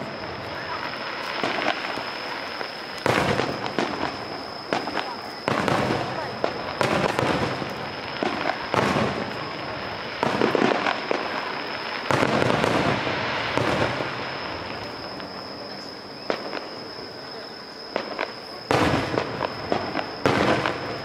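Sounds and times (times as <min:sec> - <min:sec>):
firework booms: 0:00.0 - 0:21.0
firework crackling: 0:00.0 - 0:21.0.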